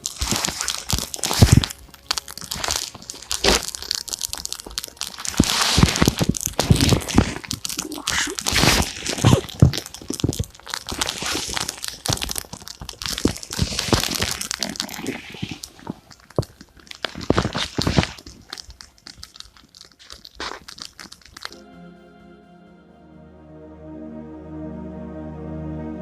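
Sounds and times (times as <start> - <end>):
firewood crunching and snapping: 0.0 - 21.6.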